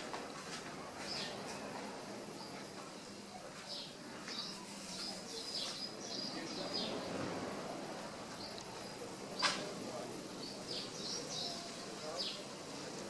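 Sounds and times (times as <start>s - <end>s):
steady background hiss: 0.0s - 13.0s
small birds chirping: 0.8s - 13.0s.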